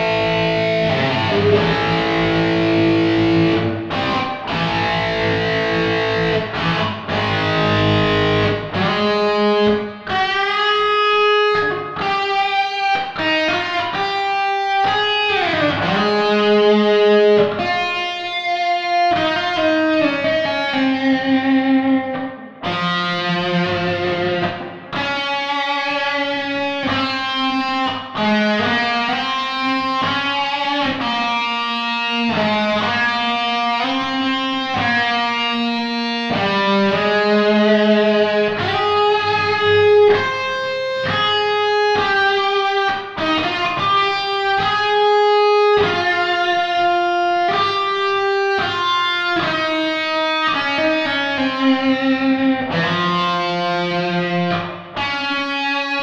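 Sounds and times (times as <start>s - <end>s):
electric guitar melody: 0.0s - 56.0s.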